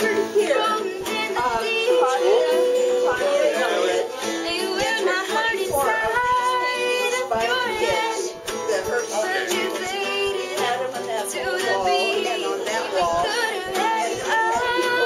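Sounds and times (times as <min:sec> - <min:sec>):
acoustic guitar strumming: 0:00.0 - 0:15.0
woman singing: 0:00.0 - 0:15.0.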